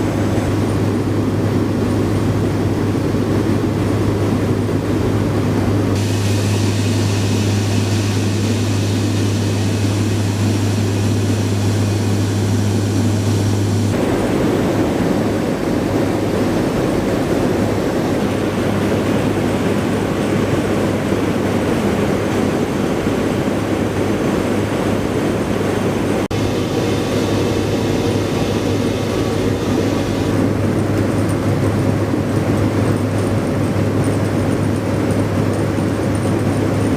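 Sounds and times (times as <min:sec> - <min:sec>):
aircraft engines running: 0:00.0 - 0:36.9.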